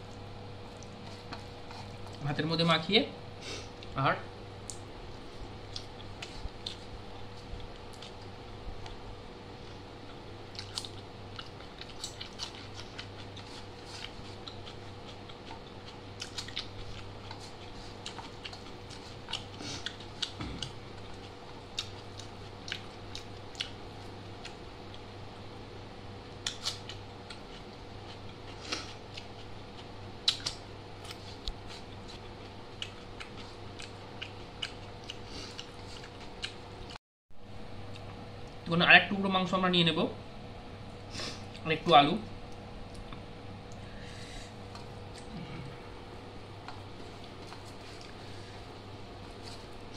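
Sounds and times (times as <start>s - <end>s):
person chewing: 0.0s - 2.2s, 4.6s - 9.0s, 9.6s - 25.1s, 26.4s - 37.0s, 37.8s - 38.6s, 42.5s - 46.0s, 46.6s - 49.9s
steady low hum: 0.0s - 49.9s.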